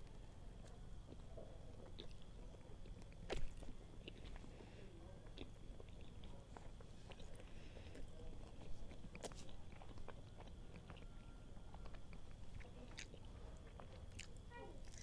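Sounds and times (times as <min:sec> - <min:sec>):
chewing pastry: 0:00.0 - 0:15.0.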